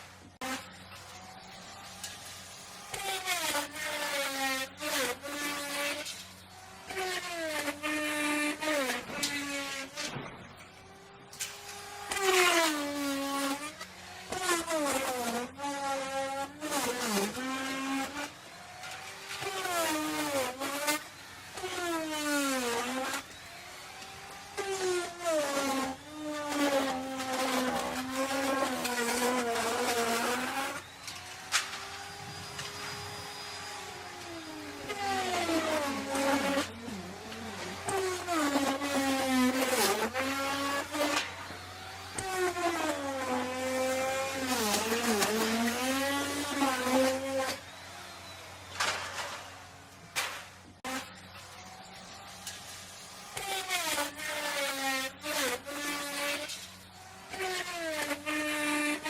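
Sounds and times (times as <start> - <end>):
wood router cutting wood: 0.0 - 59.0.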